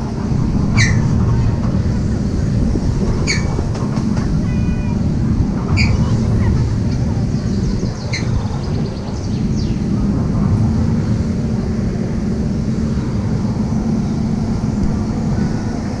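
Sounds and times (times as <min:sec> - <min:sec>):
ride car rumbling on metal rail: 0:00.0 - 0:16.0.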